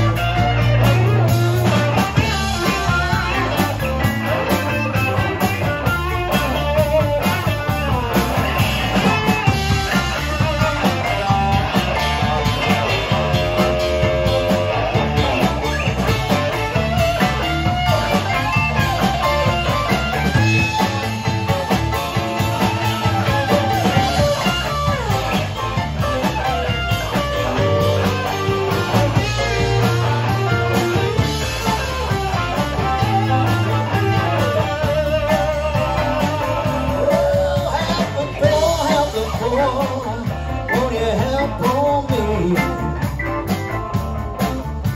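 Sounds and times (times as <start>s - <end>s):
instrumental rock music: 0.0s - 44.9s.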